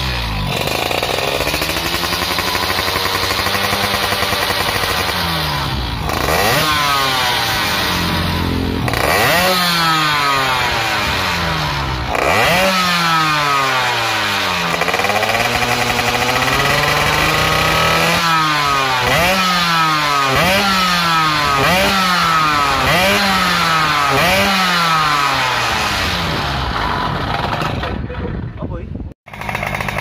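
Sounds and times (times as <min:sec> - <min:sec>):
two-stroke engine revving: 0:00.0 - 0:28.3, 0:29.2 - 0:30.0.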